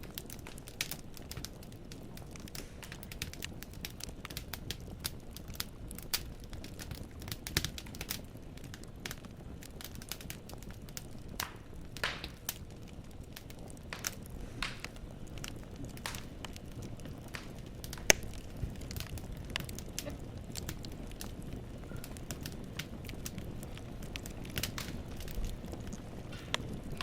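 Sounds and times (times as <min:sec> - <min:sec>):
firewood crackling in fireplace: 0:00.0 - 0:27.0.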